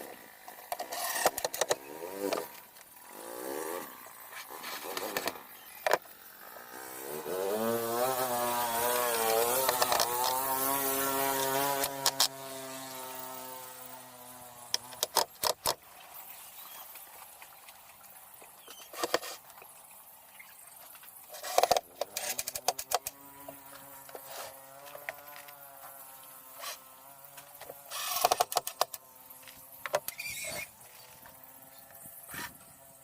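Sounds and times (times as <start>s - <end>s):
faint mechanical hum: 0.0s - 33.0s.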